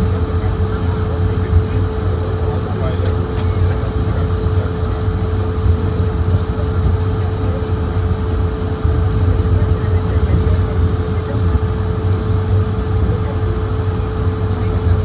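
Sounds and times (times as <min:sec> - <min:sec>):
aircraft cabin rumble: 0:00.0 - 0:15.0
steady mid-pitched hum: 0:00.0 - 0:15.0.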